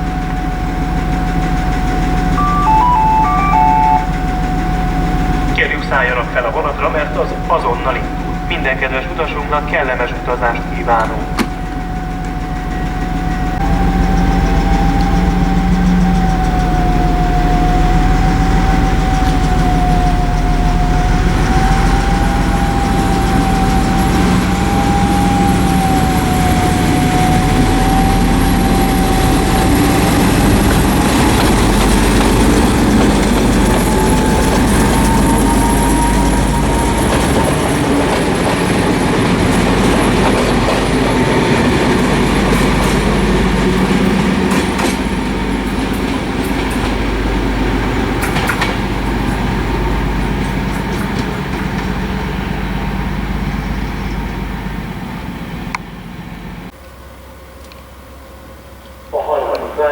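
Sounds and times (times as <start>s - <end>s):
train running: 0.0s - 59.9s
train whine: 0.0s - 59.9s.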